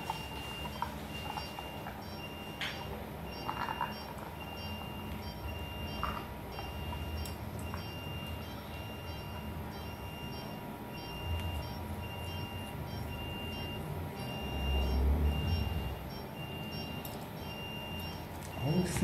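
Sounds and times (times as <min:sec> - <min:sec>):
electronic beeping: 0:00.0 - 0:19.0.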